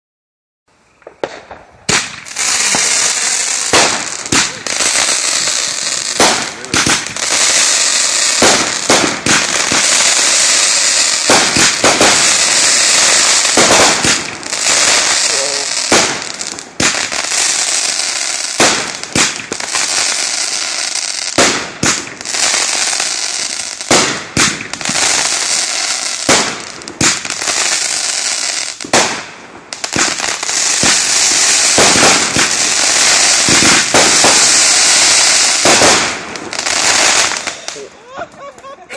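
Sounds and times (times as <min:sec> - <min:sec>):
fireworks crackling: 0:00.8 - 0:38.9
fireworks shots and bursts: 0:00.9 - 0:38.0.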